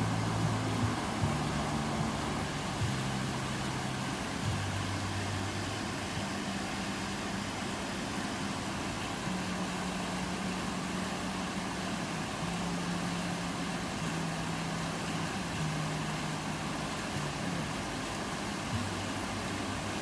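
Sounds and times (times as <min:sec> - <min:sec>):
river water rushing: 0:00.0 - 0:20.0
vehicle engine running: 0:00.0 - 0:20.0.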